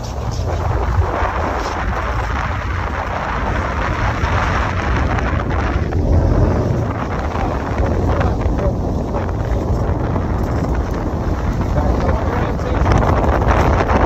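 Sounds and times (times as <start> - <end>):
boat engine rumble: 0.0 - 14.0
water churning and splashing: 0.0 - 14.0
wind buffeting microphone: 0.0 - 14.0.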